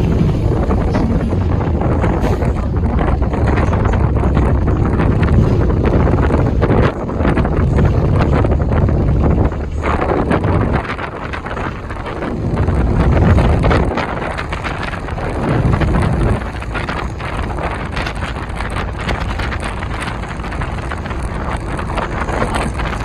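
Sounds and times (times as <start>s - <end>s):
bus engine running: 0.0s - 23.0s
rattles: 0.0s - 23.0s.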